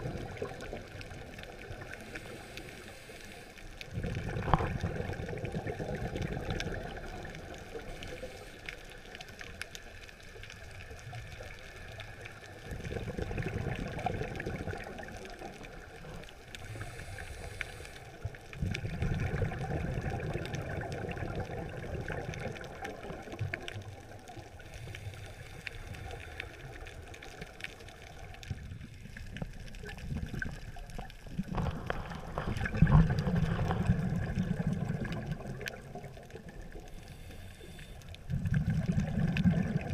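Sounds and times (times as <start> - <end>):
regulator bubbles gurgling underwater: 0.0 - 39.9.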